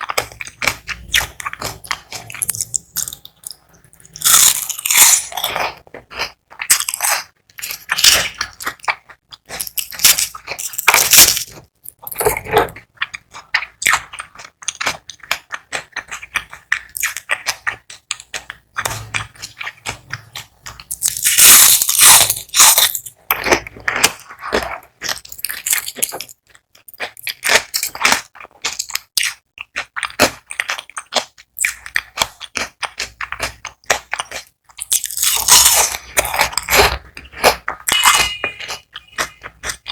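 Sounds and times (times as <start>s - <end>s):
crunching and chewing onion rings: 0.0s - 39.9s.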